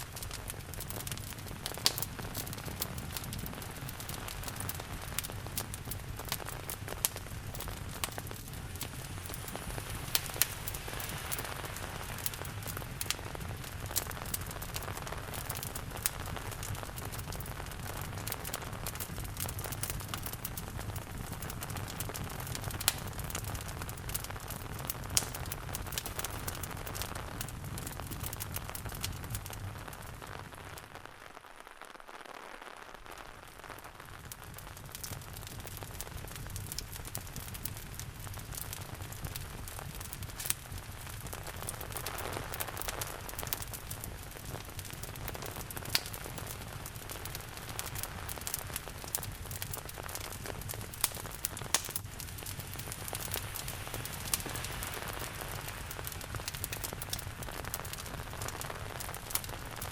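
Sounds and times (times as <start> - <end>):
steady rain hiss: 0.0 - 59.9
wood fire crackling and popping: 0.0 - 59.9.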